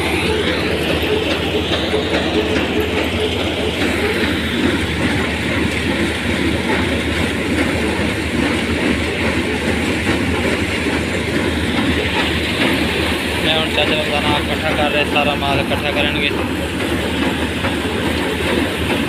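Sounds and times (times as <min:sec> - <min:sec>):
combine harvester engine hum: 0:00.0 - 0:19.0.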